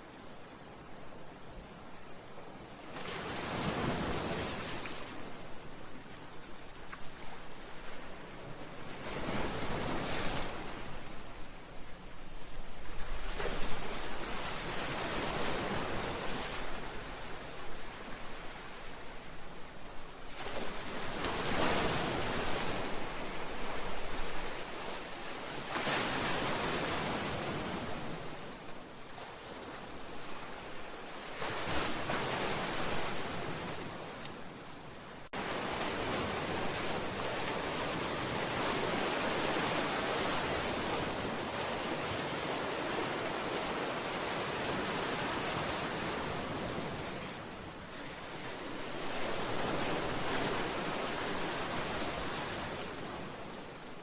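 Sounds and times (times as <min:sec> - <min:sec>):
sea waves against a seawall: 0:02.5 - 0:54.0.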